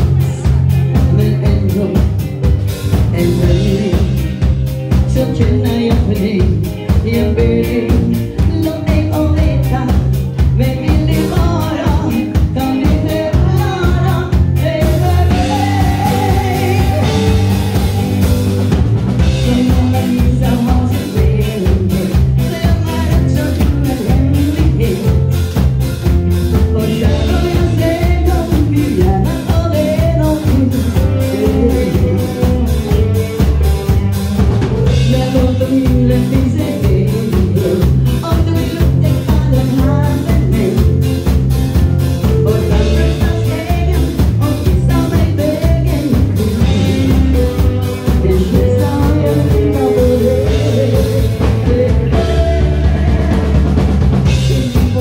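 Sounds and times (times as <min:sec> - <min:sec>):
woman singing into a microphone: 0:00.0 - 0:02.3, 0:03.0 - 0:04.4, 0:05.0 - 0:18.4, 0:19.2 - 0:25.4, 0:26.5 - 0:33.3, 0:34.9 - 0:41.2, 0:42.2 - 0:53.7, 0:54.3 - 0:55.0
band playing a steady beat: 0:00.0 - 0:55.0.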